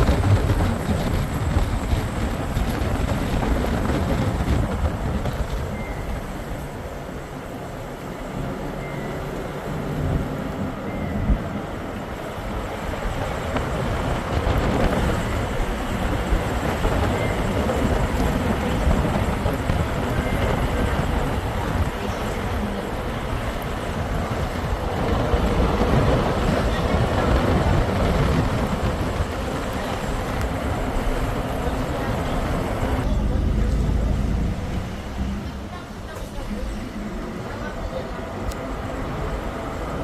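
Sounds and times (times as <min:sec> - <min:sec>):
vehicle ride rumble: 0:00.0 - 0:40.0.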